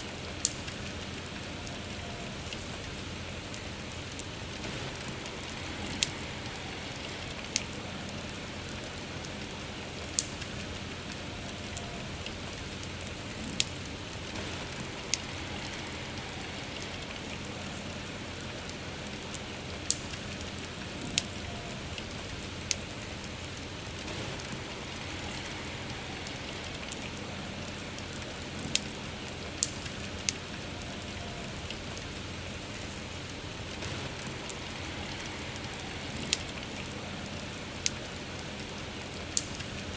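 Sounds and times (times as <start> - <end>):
soft rain falling: 0.0 - 39.9
wood fire crackling and popping: 0.0 - 39.9.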